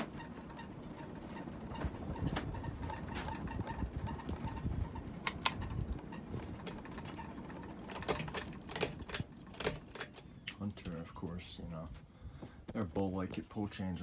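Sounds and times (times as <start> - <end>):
light clicks and rattles: 0.0 - 12.3
ceiling fan rumbling: 0.0 - 14.0.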